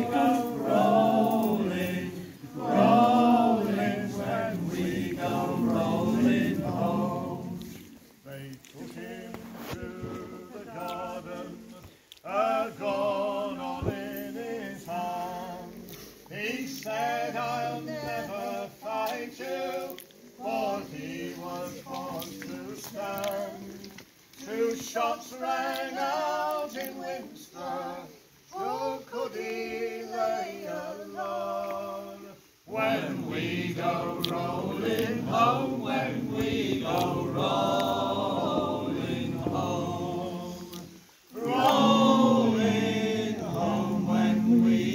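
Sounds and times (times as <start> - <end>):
group singing unaccompanied: 0.0 - 44.9.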